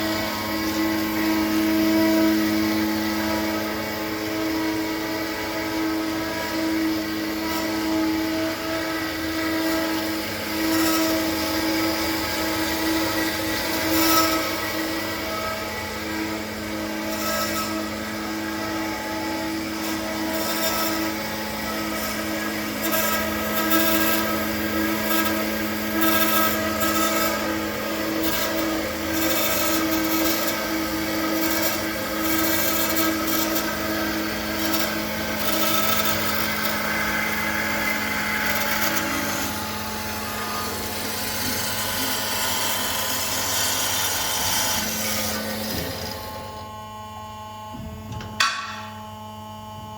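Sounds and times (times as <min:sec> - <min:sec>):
band saw humming and hissing: 0:00.0 - 0:49.9.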